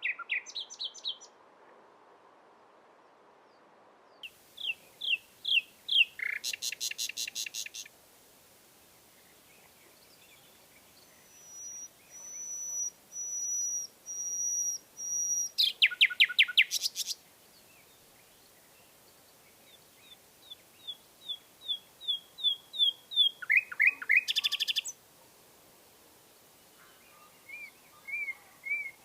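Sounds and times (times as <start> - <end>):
nightingale singing: 0.0 - 1.4, 4.2 - 7.9, 9.1 - 25.0, 26.7 - 29.0.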